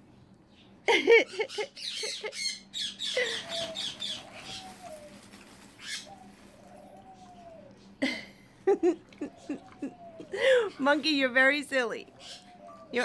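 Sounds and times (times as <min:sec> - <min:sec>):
parrots squawking and chattering: 0:01.1 - 0:10.9, 0:11.7 - 0:13.0.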